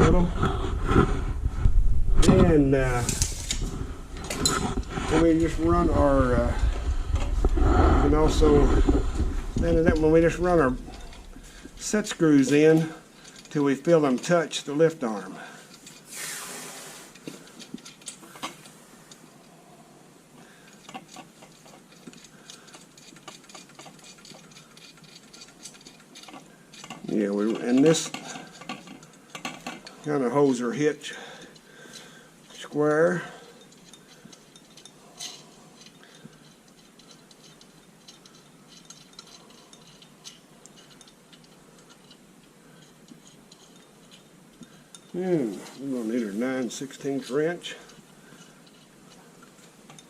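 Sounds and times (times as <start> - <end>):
low background noise: 0.0 - 50.0.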